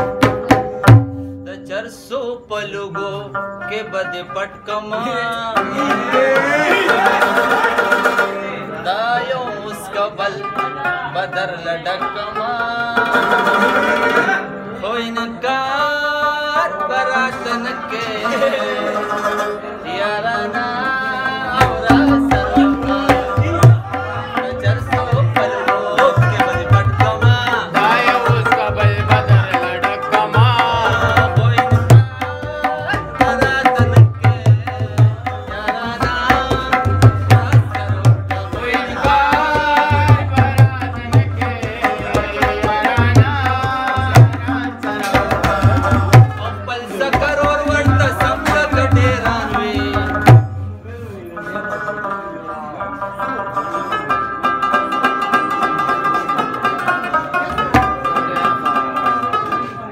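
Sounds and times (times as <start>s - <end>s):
rabab plucking melody: 0.0s - 59.9s.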